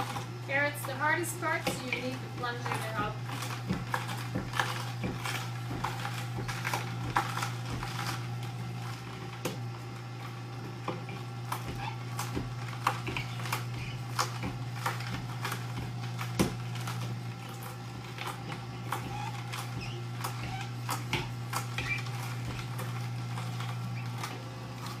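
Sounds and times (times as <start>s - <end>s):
juicer motor humming: 0.0s - 25.0s
carrots cracking and crunching: 1.7s - 25.0s.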